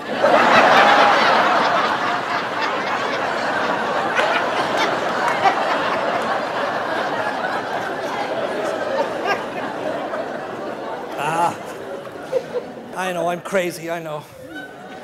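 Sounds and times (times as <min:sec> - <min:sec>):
audience laughing: 0:00.0 - 0:13.6, 0:14.2 - 0:15.0.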